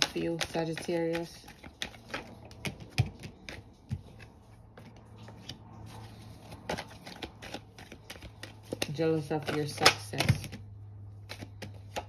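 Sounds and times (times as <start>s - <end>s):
cards shuffling: 0.0s - 12.0s.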